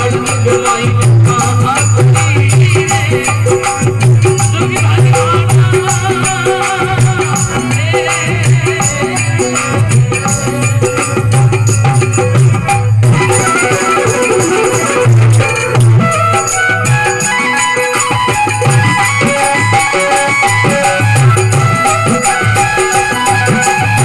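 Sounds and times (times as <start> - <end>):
fast rattling percussion: 0.0 - 24.0
hand drum: 0.0 - 24.0
steady melody line: 0.0 - 24.0.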